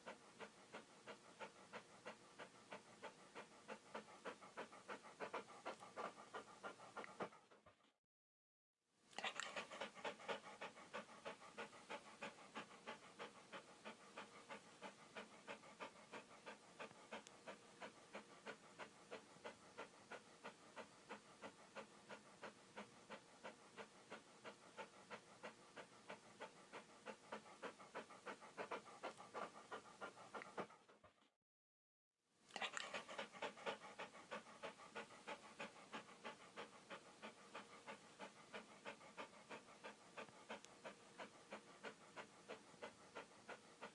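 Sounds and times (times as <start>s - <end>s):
dog panting rapidly: 0.0s - 8.0s, 9.2s - 31.4s, 32.5s - 43.9s.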